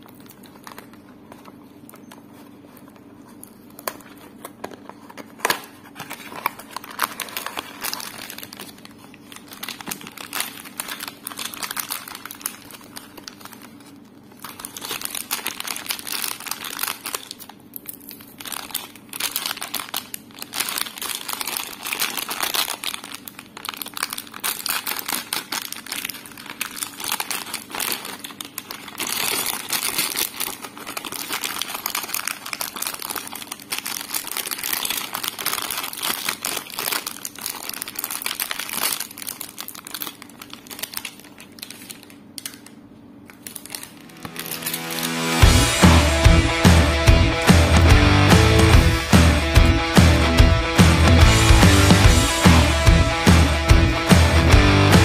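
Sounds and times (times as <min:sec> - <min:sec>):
plastic packaging crinkling: 0:00.0 - 0:47.0.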